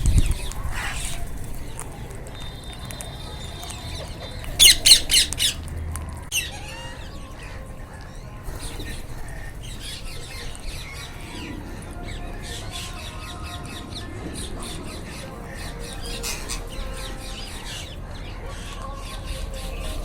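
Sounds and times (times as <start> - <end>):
parrot chatter: 0.0 - 20.0
parrots squawking: 0.3 - 1.5, 3.2 - 5.7, 6.3 - 19.8.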